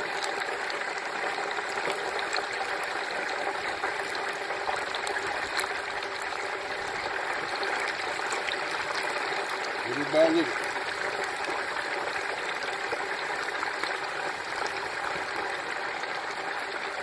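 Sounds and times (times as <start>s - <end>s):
frying oil bubbling and sizzling: 0.0s - 17.0s
oil crackling and popping: 0.0s - 17.0s.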